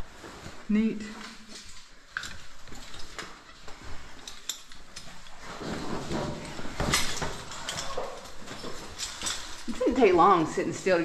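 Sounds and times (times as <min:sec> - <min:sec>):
clothing and gear rustling: 0:00.0 - 0:11.0.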